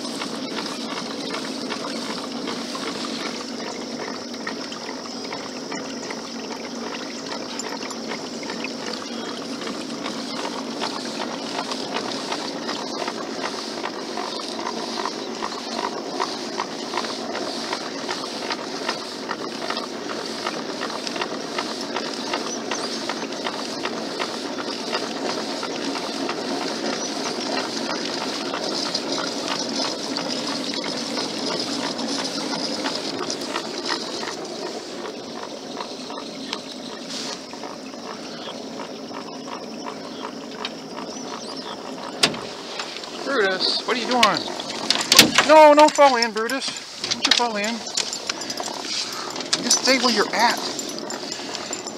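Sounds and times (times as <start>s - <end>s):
water rushing along boat: 0.0s - 51.9s.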